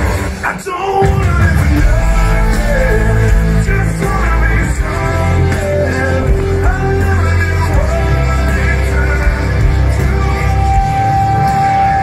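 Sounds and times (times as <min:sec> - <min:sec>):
person singing: 0:00.0 - 0:12.0
rock band playing through pa: 0:00.0 - 0:12.0.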